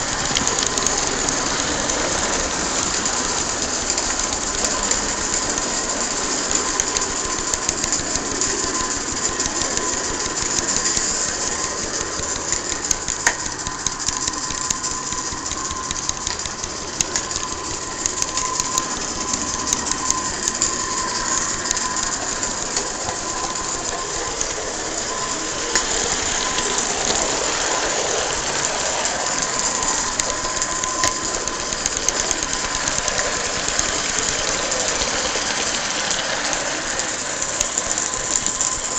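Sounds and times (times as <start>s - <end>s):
steady steam hiss: 0.0s - 38.9s
steam locomotive mechanical chatter: 0.0s - 38.9s
wheels clicking on track: 0.0s - 38.9s.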